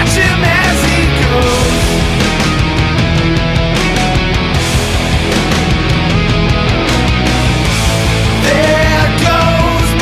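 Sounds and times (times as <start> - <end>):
heavy rock music: 0.0 - 10.0.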